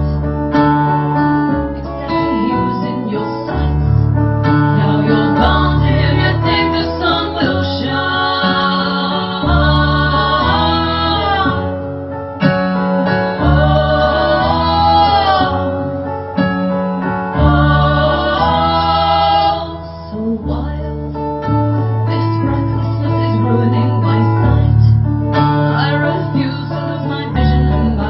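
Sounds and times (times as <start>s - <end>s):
women singing: 1.8s - 3.9s, 4.6s - 11.9s, 13.0s - 21.3s, 22.4s - 28.0s.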